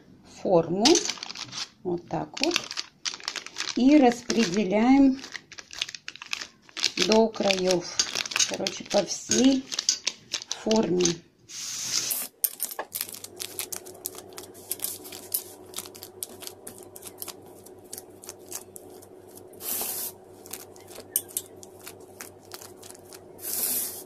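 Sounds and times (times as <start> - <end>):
faint steady hum: 0.0 - 24.0
parchment paper crinkling: 1.0 - 11.2, 12.0 - 24.0.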